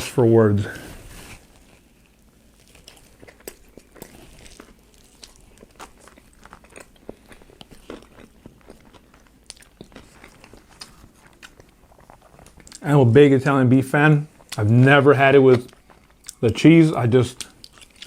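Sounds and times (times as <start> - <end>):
person chewing food: 1.2 - 12.8, 14.3 - 16.4, 17.3 - 18.0.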